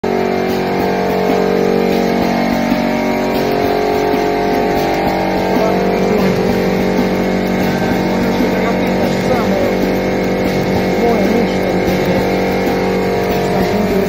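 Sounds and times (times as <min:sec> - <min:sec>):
machine humming with held tones: 0:00.0 - 0:14.0.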